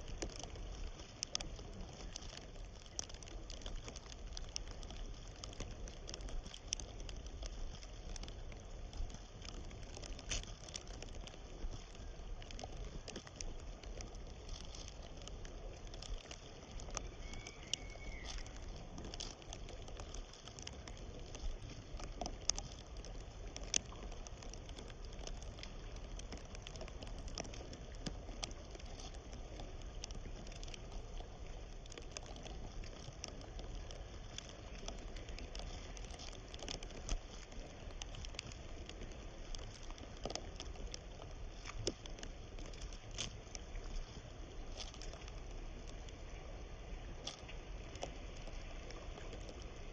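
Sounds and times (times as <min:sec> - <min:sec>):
faint crackling clicks: 0:00.0 - 0:49.9
river water running: 0:00.0 - 0:49.9.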